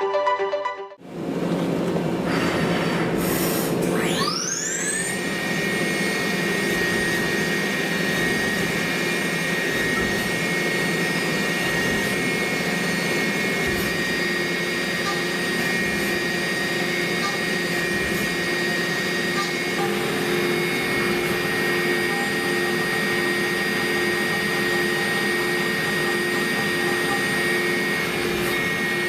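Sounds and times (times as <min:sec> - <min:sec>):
spindle whine: 0:01.0 - 0:29.0.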